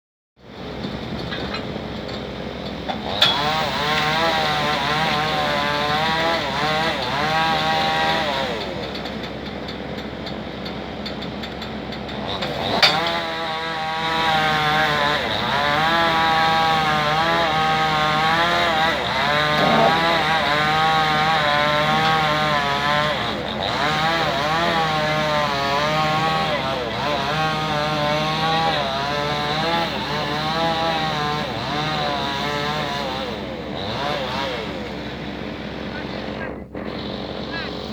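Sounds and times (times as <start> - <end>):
excavator engine and hydraulics: 0.4 - 37.9.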